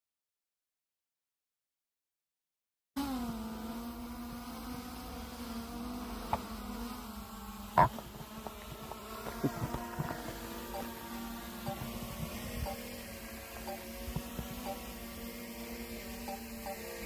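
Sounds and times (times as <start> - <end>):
drone propellers buzzing: 3.0 - 17.0.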